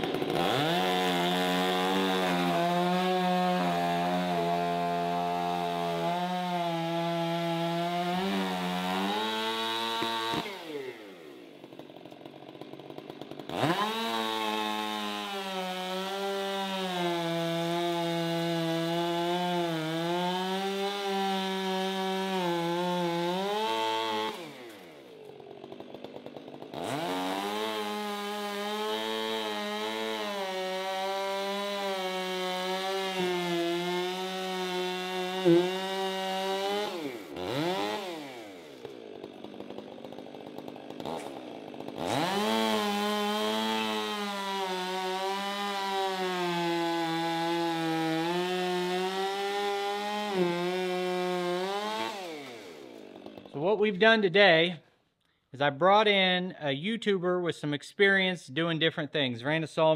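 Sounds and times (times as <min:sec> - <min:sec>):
chainsaw cutting wood: 0:00.0 - 0:55.4.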